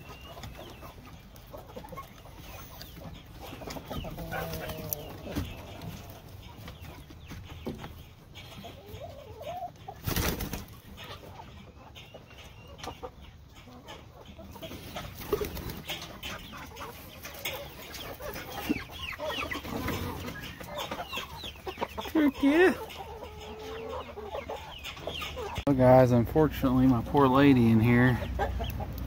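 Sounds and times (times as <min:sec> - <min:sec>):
chickens clucking and calling: 0:00.0 - 0:29.0.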